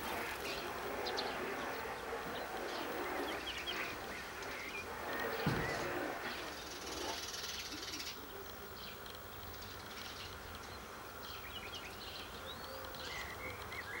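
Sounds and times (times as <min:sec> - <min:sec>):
insects buzzing: 0:00.0 - 0:14.0
bird chirps: 0:00.4 - 0:14.0.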